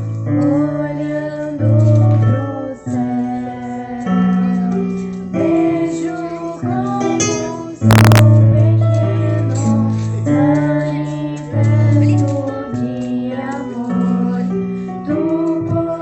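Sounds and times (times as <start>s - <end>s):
girl singing worship song: 0.0s - 16.0s.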